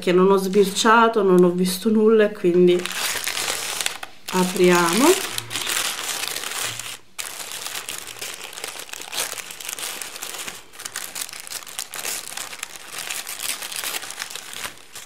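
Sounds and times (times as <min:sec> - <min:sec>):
tissue paper crinkling: 0:02.8 - 0:15.0.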